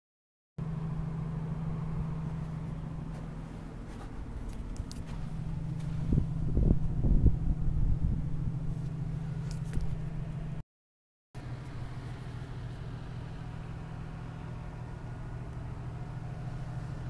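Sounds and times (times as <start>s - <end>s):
diesel engine idling: 0.6s - 10.6s, 11.4s - 17.0s.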